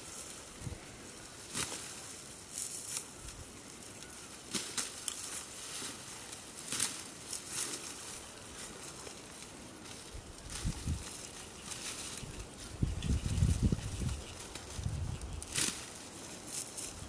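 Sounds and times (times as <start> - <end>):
dry wheat stalks swishing: 0.0 - 17.0.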